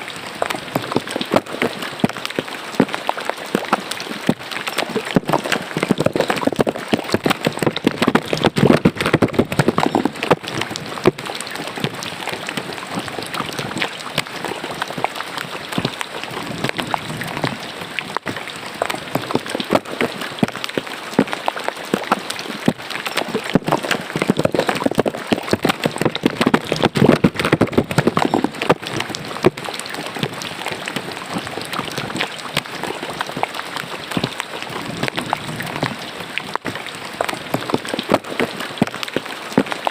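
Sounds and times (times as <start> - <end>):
rain falling into a drain: 0.0 - 39.9.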